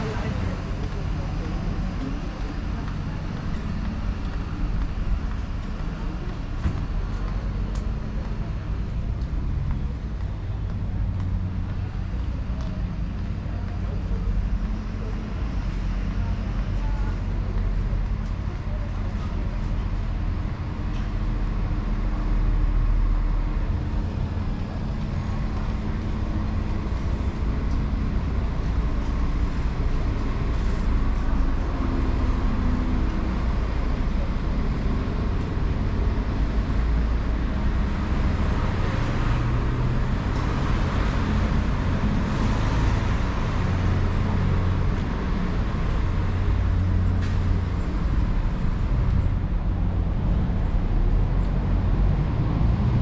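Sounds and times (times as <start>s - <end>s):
cars passing along street: 0.0s - 53.0s
low rumble of road traffic: 0.0s - 53.0s.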